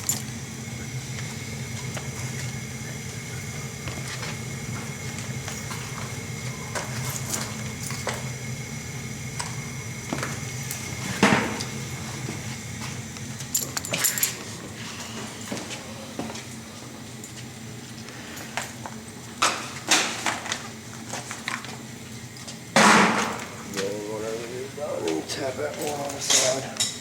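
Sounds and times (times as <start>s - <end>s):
steady low hum: 0.0s - 19.4s, 20.8s - 27.0s.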